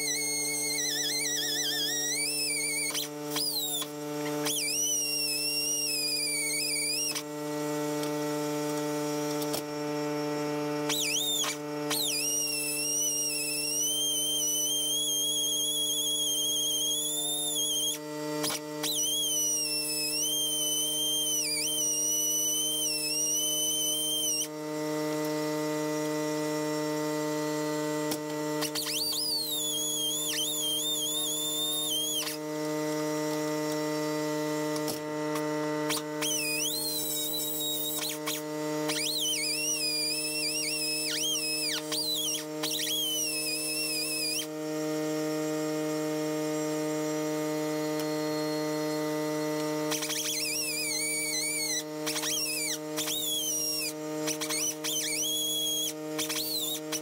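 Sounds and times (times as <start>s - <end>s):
high-speed power tool whining: 0.0s - 57.0s.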